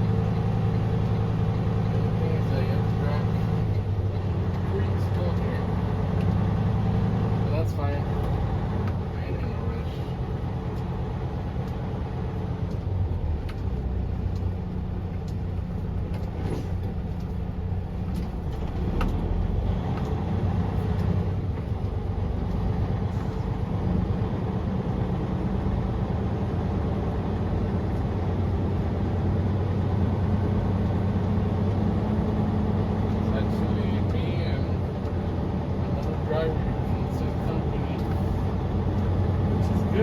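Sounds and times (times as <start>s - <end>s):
truck diesel engine drone: 0.0s - 40.0s.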